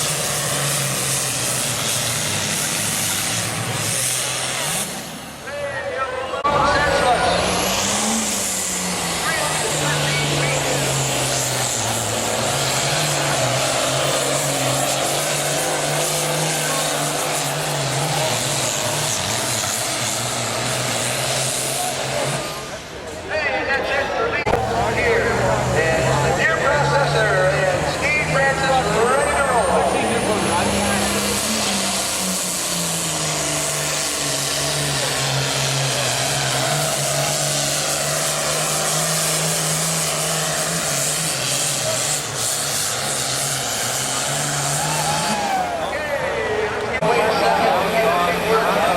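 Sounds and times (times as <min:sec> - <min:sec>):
tractor diesel engine droning: 0:00.0 - 0:48.9.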